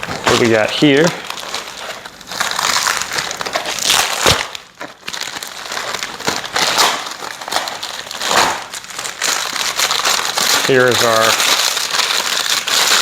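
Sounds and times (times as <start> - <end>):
packaging wrap being pulled off: 0.0 - 13.0.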